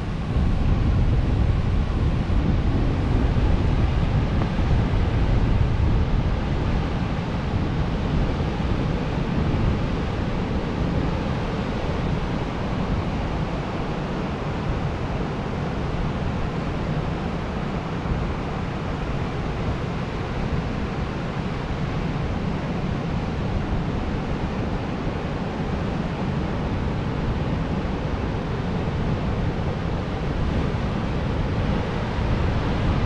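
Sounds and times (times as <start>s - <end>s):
wind and surf rushing: 0.0s - 33.0s
wind buffeting microphone: 0.0s - 33.0s.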